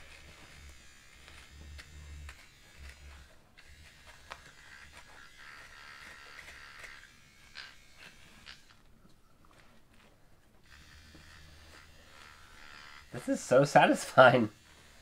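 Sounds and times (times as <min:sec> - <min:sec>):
clippers scraping through fur: 0:00.0 - 0:08.9, 0:09.5 - 0:15.0
low clipper buzz: 0:00.0 - 0:08.9, 0:10.6 - 0:15.0.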